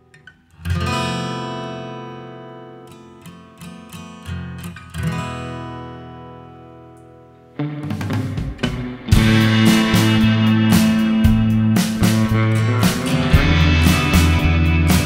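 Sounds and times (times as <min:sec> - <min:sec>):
acoustic guitar chords and notes: 0:00.0 - 0:15.0.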